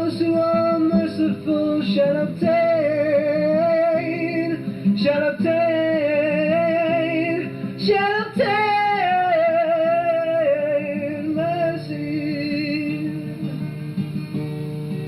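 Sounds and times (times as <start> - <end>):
high singing voice with vibrato: 0.0 - 13.5.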